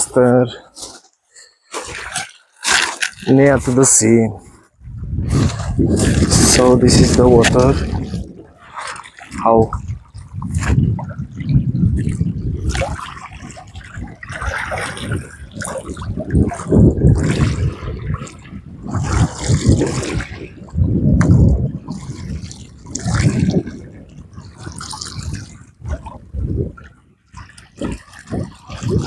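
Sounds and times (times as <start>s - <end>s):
sea waves washing on shore: 5.2s - 29.0s.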